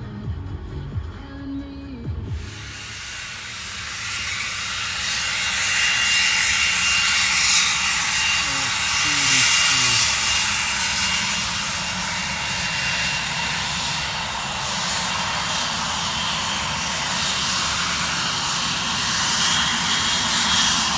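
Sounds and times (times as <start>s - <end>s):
jet engines running: 2.3s - 20.9s.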